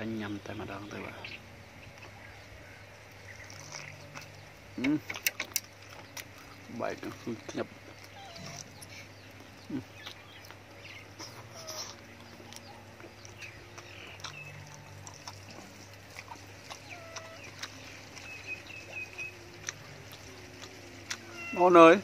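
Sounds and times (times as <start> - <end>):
bird calls: 0.0 - 22.0
wet chewing and lip-smacking: 3.0 - 21.9.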